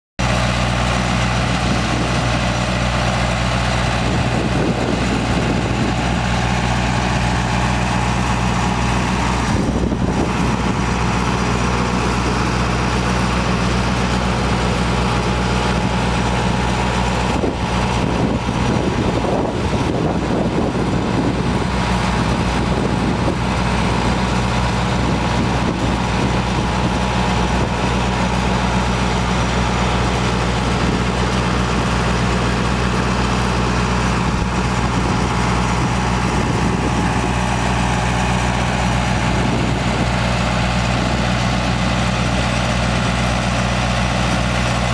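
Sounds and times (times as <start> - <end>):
pump engine droning: 0.2 - 44.9.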